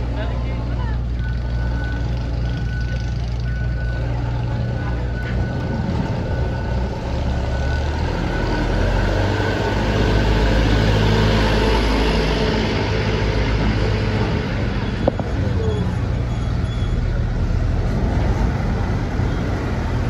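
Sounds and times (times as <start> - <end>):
truck engine running at low speed: 0.0 - 20.0.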